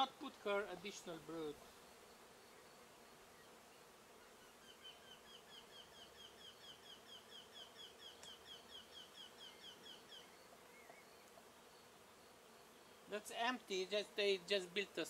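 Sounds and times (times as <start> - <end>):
honey bees humming: 0.0 - 15.0.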